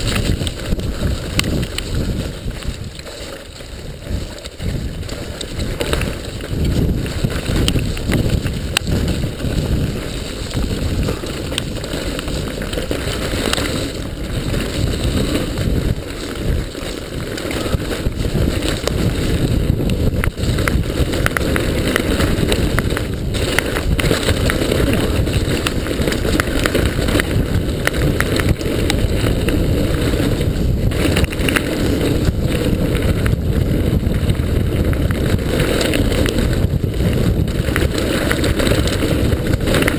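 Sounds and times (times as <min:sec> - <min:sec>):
bike rattling and knocking: 0:00.0 - 0:39.9
tyres on dirt: 0:00.0 - 0:39.9
wind on microphone: 0:00.0 - 0:39.9.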